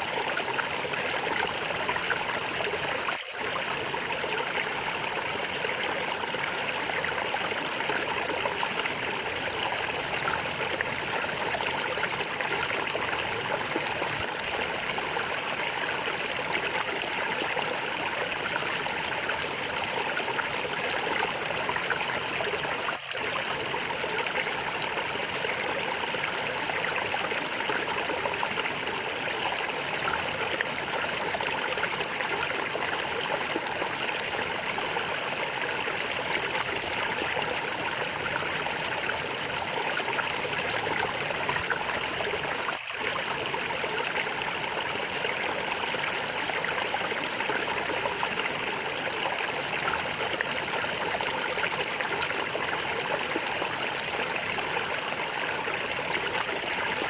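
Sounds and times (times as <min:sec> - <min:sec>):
stream water gurgling: 0:00.0 - 0:57.0.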